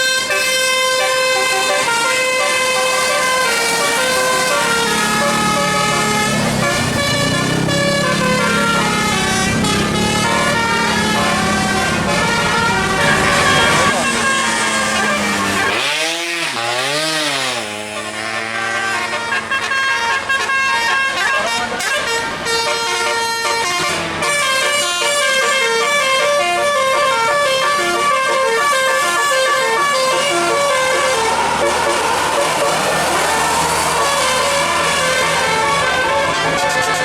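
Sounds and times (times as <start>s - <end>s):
bus musical air horn: 0.0s - 37.0s.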